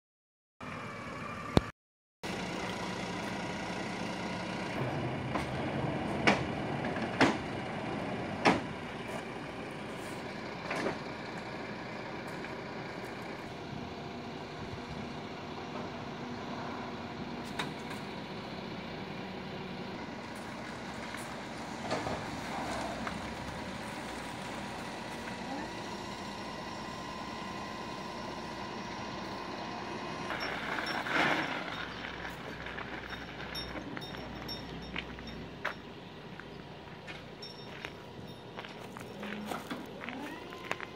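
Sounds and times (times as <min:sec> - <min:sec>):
truck and forklift engines running: 0:00.6 - 0:40.9.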